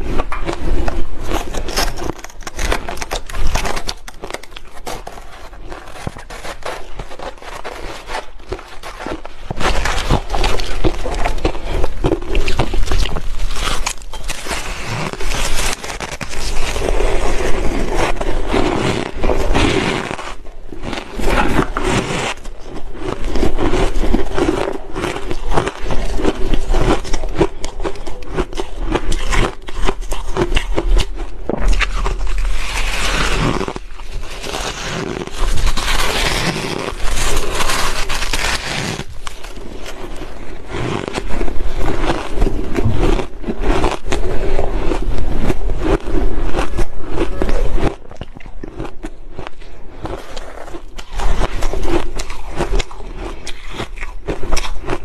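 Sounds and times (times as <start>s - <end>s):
ice being crunched and chewed: 0.0s - 55.0s.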